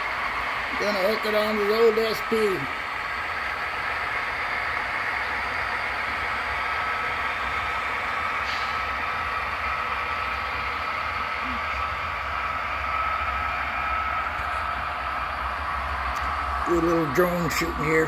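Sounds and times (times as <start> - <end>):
model train humming: 0.0 - 18.0
thin whine: 0.0 - 18.0.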